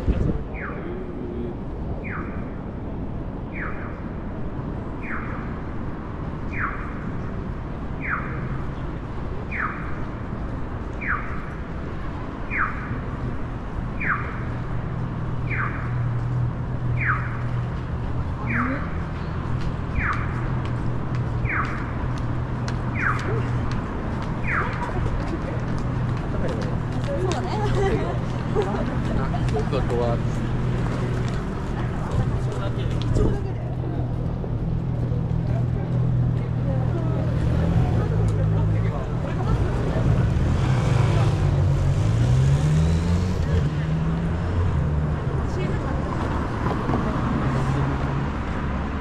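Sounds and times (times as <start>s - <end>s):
street traffic noise: 0.0s - 49.0s.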